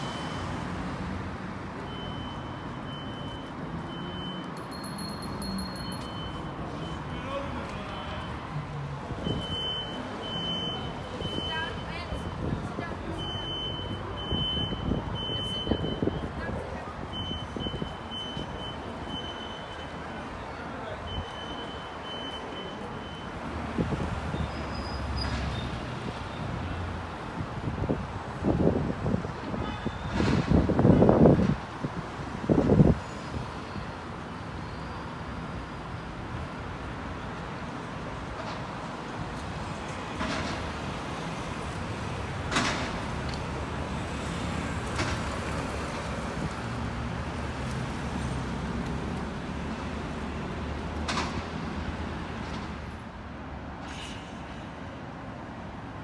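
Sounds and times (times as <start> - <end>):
road traffic rumble: 0.0 - 56.0
vehicles passing: 0.0 - 56.0.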